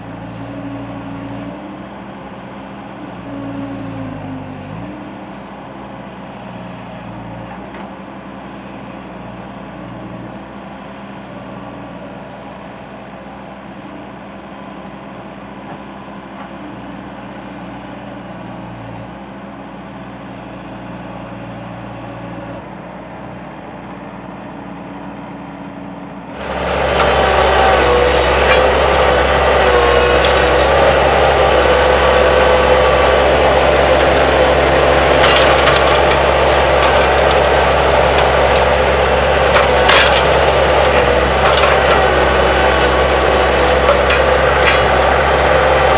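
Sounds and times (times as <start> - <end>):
loader engine running: 0.0 - 45.9.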